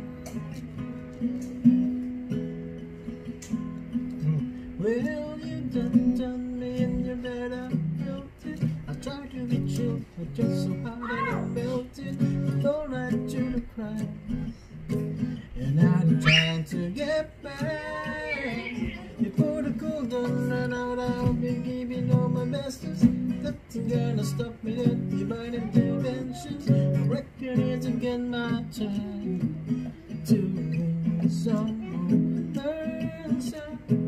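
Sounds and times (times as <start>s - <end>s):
acoustic guitar strumming: 0.0s - 34.0s
person singing: 4.2s - 34.0s.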